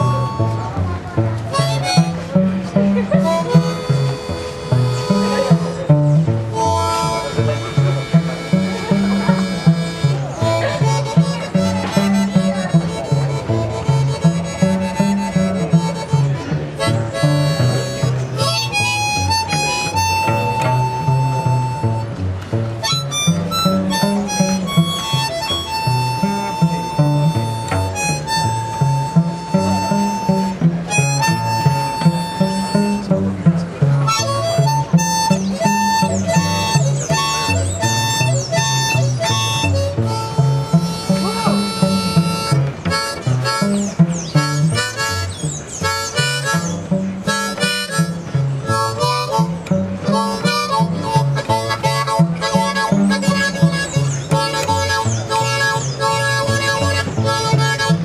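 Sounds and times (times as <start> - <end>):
harmonica long high notes: 0.0 - 22.2, 22.8 - 58.0
cello walking bass line: 0.0 - 58.0.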